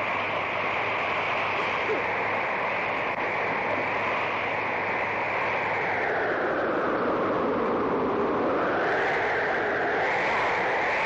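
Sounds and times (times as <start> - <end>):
faint wind whistles: 0.0 - 11.0
strong wind rushing: 0.0 - 11.0.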